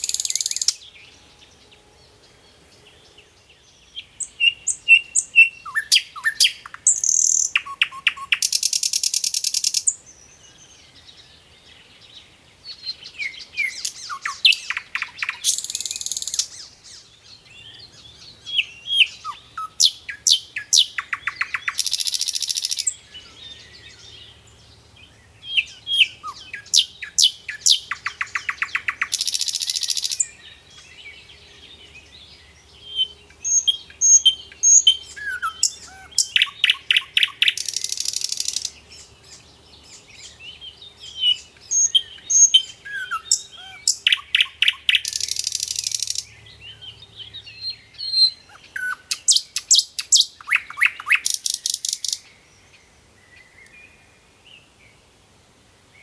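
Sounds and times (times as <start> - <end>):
bird chirping and trilling: 0.0 - 1.6, 3.0 - 10.6, 12.7 - 24.4, 25.3 - 53.7.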